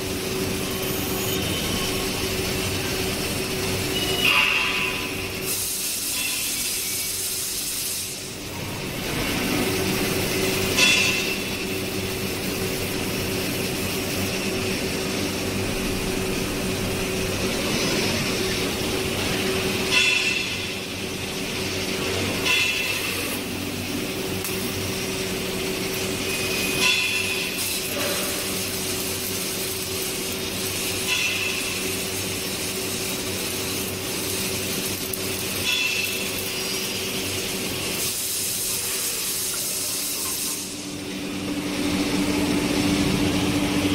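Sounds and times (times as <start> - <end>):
laser cutting machine humming: 0.0 - 43.9.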